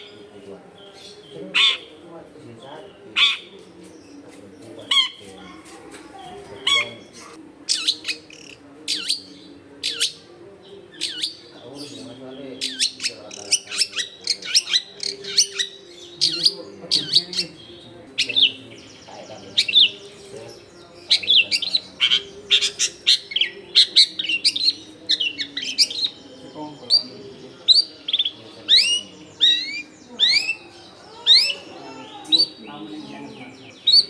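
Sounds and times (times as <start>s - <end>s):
shrike singing: 0.0s - 5.6s, 6.2s - 34.0s.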